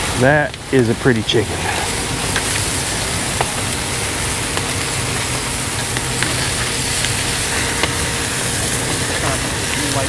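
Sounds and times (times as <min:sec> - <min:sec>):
burning wood crackling: 0:00.0 - 0:10.0
chicken sizzling on a grill: 0:00.0 - 0:10.0
low steady hum: 0:00.0 - 0:10.0.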